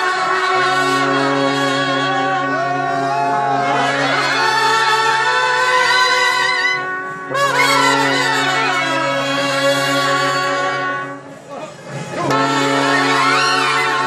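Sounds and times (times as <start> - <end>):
brass band playing: 0.0 - 14.0.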